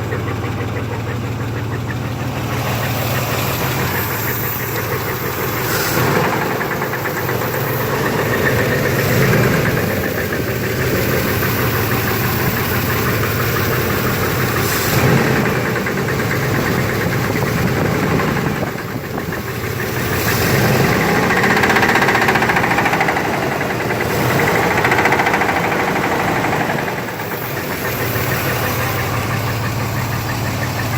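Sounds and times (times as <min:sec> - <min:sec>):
engine running with knocking: 0:00.0 - 0:30.9.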